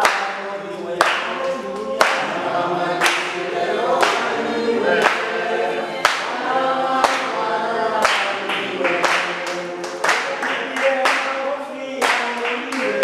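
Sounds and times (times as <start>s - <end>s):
congregation singing: 0.0s - 13.0s.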